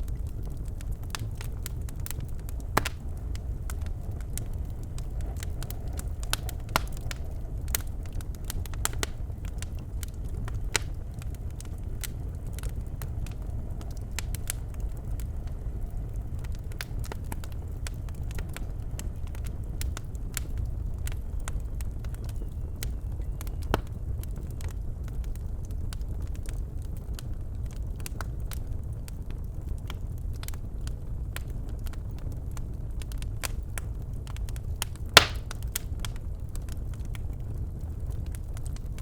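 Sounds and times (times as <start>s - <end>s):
fire crackling and popping: 0.0s - 39.0s
fire rumbling in fireplace: 0.0s - 39.0s.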